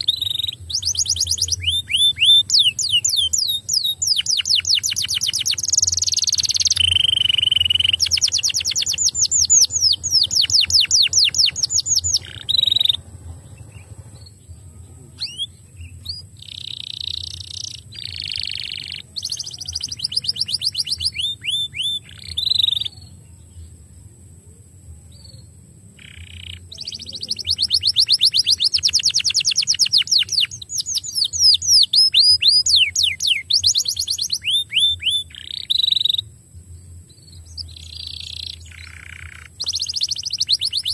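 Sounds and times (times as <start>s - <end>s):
canary singing trills: 0.0s - 23.9s, 24.6s - 40.9s.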